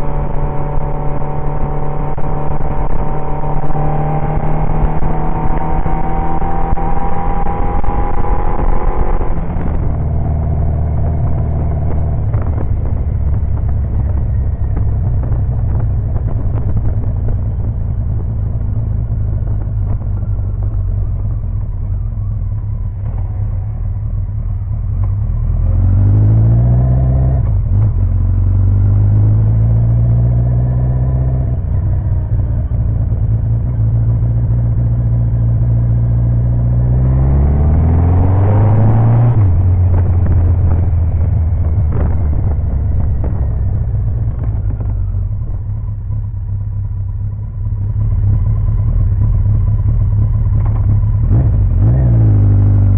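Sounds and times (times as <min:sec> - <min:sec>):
motorcycle engine running: 0:00.0 - 0:26.2, 0:27.0 - 0:52.9.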